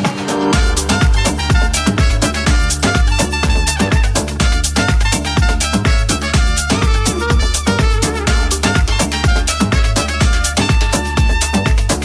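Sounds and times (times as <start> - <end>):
electronic club music: 0.0 - 12.0
kick drum beat: 0.0 - 12.0.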